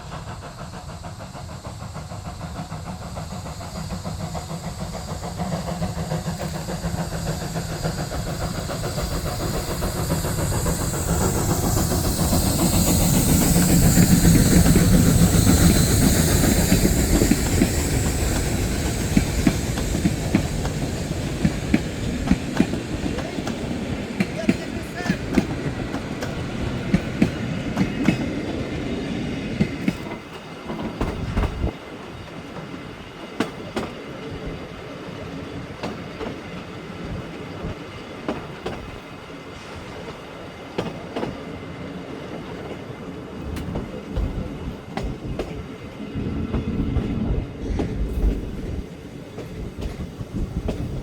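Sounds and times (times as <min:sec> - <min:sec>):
train wheels clicking over rail joints: 0:00.0 - 0:51.0.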